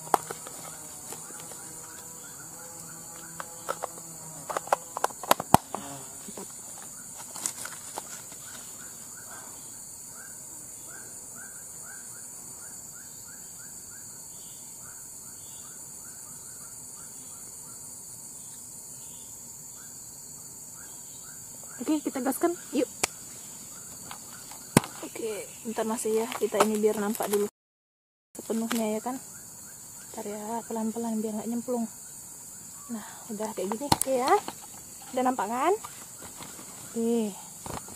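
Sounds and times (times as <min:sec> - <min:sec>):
insects droning: 0:00.0 - 0:27.5, 0:28.4 - 0:37.9.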